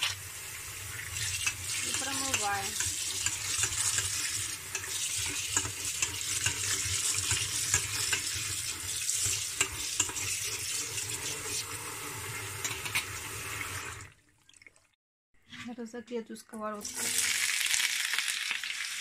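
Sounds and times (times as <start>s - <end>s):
tap water running into sink: 0.0s - 14.8s, 16.8s - 18.8s.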